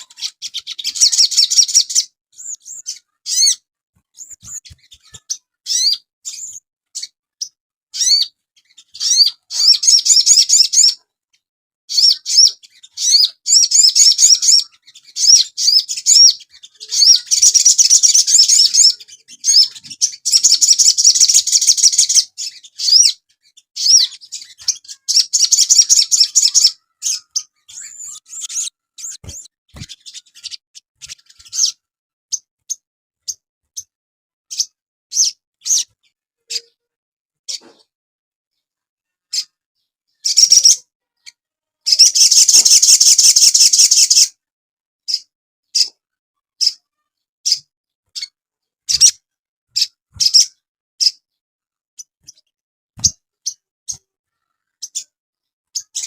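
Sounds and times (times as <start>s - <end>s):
songbird chirping and trilling: 0.0s - 37.9s, 38.5s - 44.4s, 45.0s - 51.4s, 52.0s - 56.0s.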